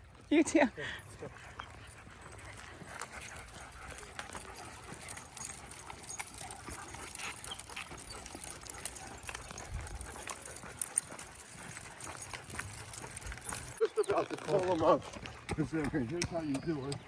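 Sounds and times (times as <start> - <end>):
collar tags jingling: 0.0 - 17.0
paws and claws clicking: 1.0 - 17.0.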